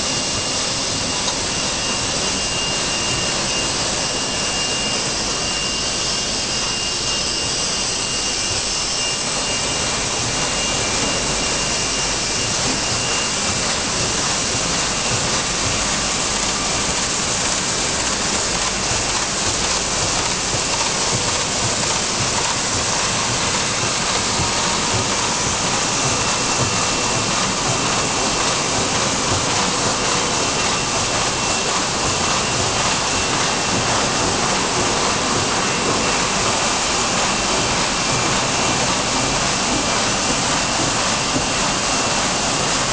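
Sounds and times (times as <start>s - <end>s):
machine vacuum suction rushing hiss: 0.0s - 42.9s.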